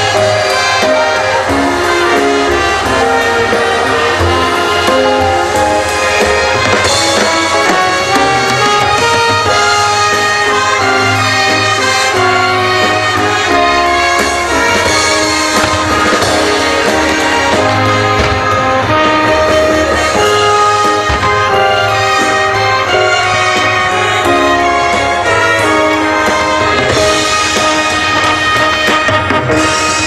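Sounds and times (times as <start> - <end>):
orchestral music with brass: 0.0 - 30.0.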